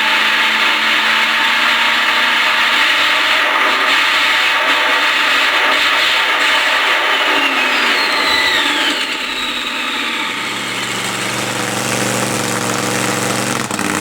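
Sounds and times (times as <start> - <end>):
loud distorted engine running: 0.0 - 14.0.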